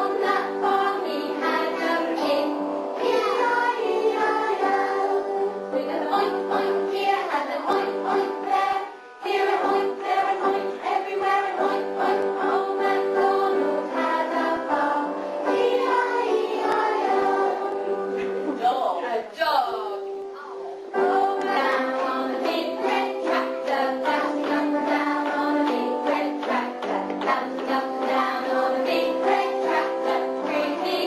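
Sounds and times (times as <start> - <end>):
group of voices singing: 0.0 - 18.6, 21.0 - 31.0.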